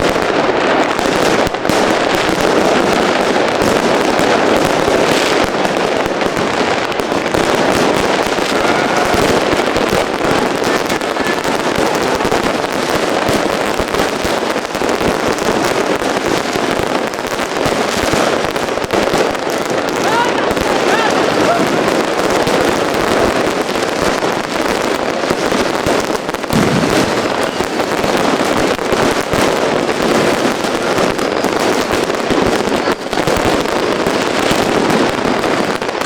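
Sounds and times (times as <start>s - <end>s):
fireworks and firecrackers banging: 0.0s - 36.0s.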